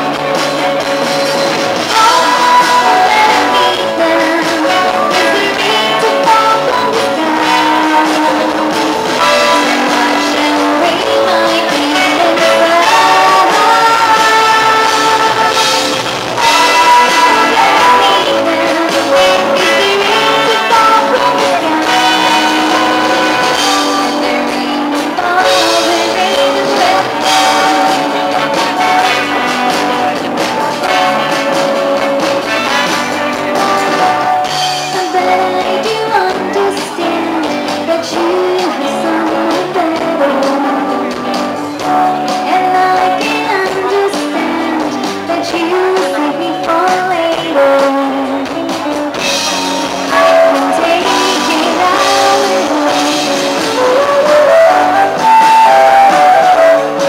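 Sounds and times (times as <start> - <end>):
live pop band playing: 0.0 - 57.0
woman singing lead: 0.0 - 57.0.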